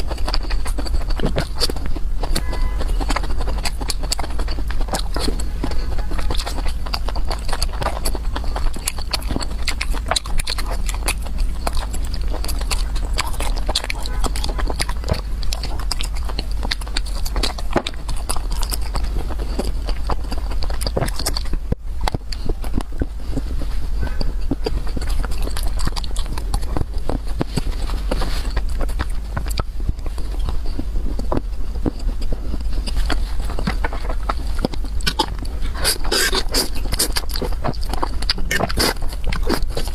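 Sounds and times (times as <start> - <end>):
constant low hum: 0.0 - 39.9
person chewing and slurping: 0.0 - 39.9.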